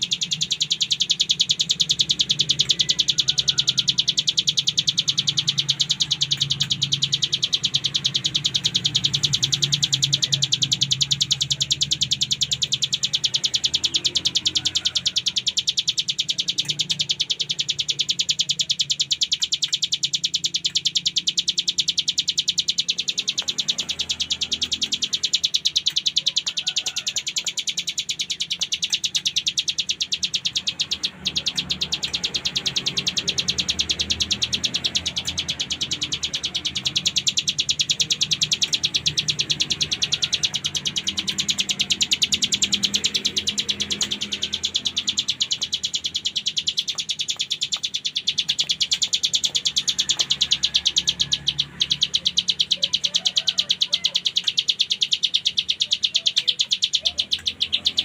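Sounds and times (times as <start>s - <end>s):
bird singing rapid buzzing trill: 0.0s - 58.0s.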